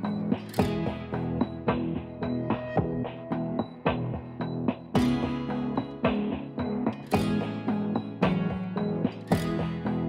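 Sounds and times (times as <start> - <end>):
plucked and strummed guitar: 0.0 - 10.0.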